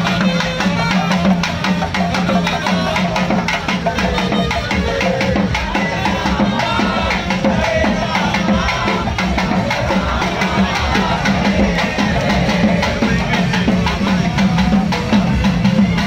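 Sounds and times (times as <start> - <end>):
drums struck fast: 0.0 - 16.0.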